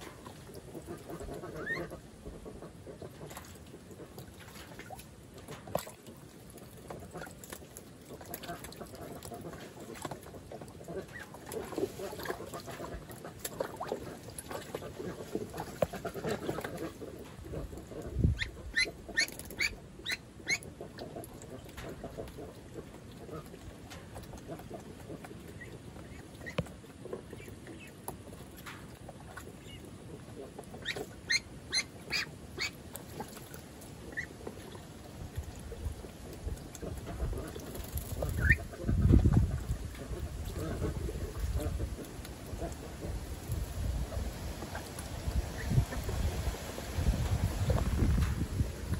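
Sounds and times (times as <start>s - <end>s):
duckling splashing in water: 0.0s - 48.9s.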